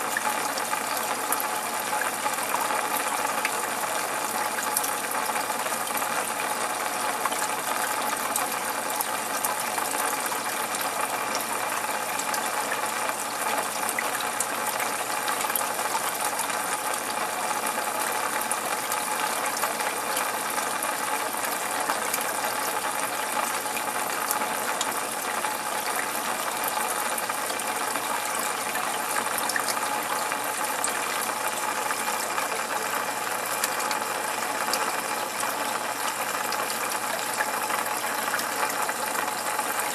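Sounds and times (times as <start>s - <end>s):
aquarium equipment running: 0.0s - 39.9s.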